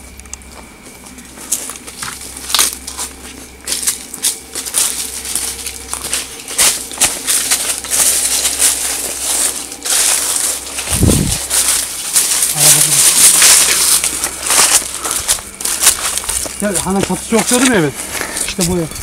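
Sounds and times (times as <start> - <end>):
footsteps crunching through dry leaves: 0.4 - 19.0.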